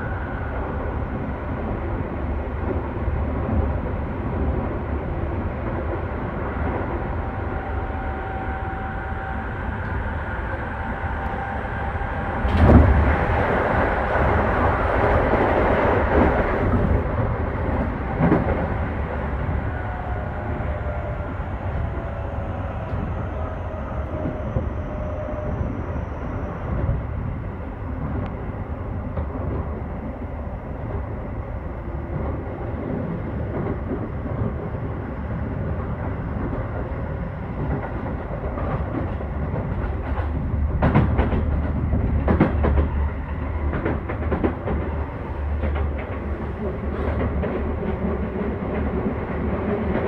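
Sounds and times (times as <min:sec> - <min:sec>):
electric train whine: 0:00.0 - 0:50.0
train wheels rumbling on rail: 0:00.0 - 0:50.0.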